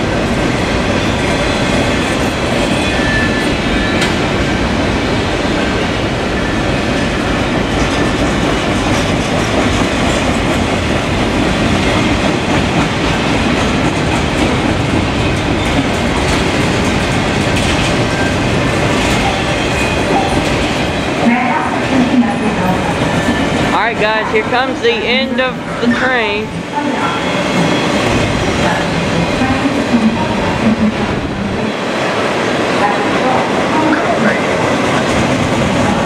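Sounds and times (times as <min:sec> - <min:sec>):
train wheels rolling on rails: 0:00.0 - 0:36.0.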